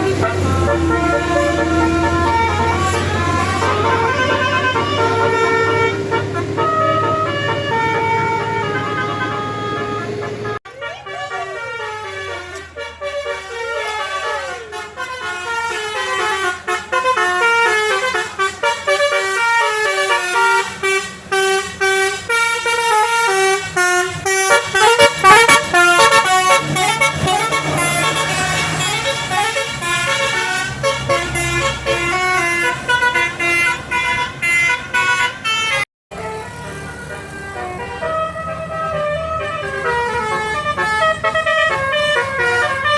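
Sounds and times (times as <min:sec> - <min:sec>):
multi-tone bus horn melody: 0:00.0 - 0:42.9.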